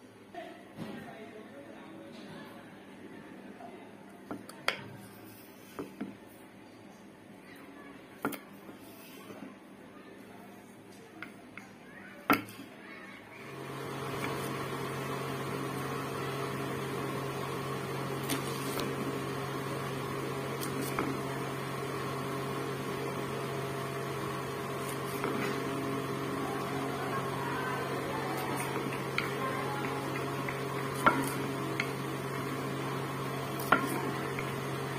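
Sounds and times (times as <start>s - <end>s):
steady mechanical hum: 0.0s - 34.9s.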